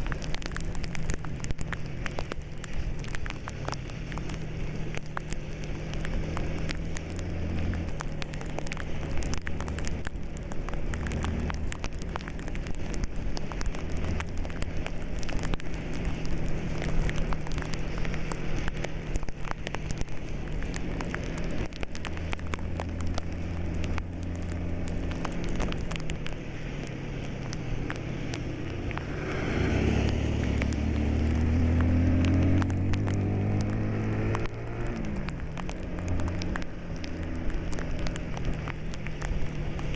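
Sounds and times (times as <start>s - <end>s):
dense crackling rustling noise: 0.0s - 39.9s
vehicle engine running and revving: 0.0s - 39.9s.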